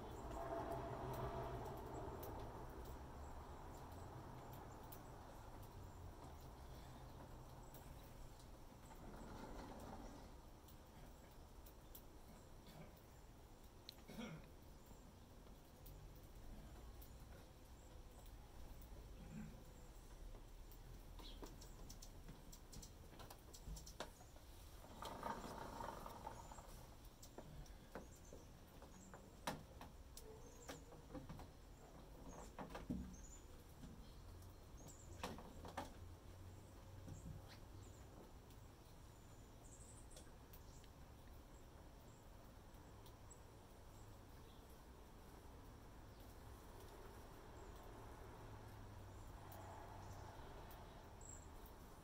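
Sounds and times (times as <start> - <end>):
small birds chirping: 0.0 - 52.0
sparrows pecking on wooden deck: 0.0 - 52.0.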